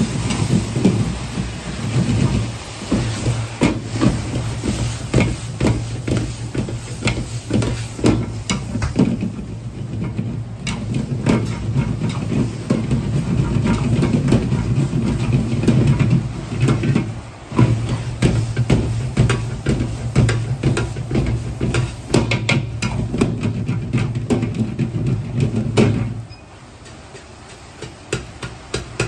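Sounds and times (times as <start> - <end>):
gas burner rushing: 0.0 - 29.0.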